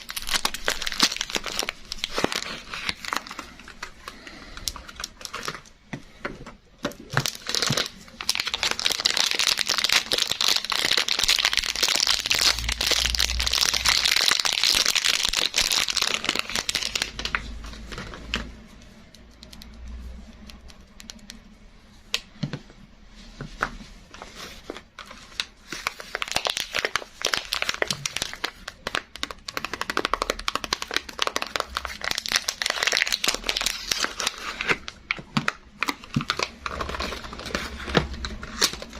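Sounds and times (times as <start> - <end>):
packaging crinkling: 0.0 - 5.8, 6.8 - 21.5, 24.1 - 38.9.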